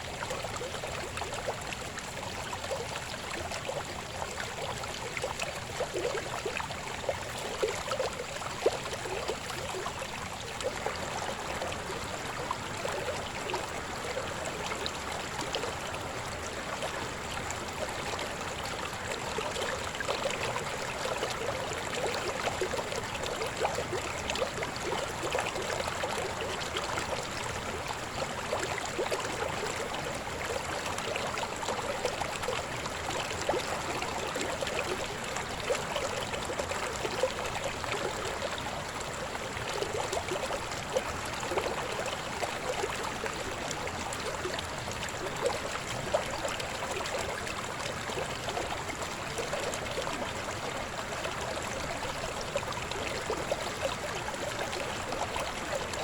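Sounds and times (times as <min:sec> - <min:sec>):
river flowing with gurgles: 0:00.0 - 0:56.0.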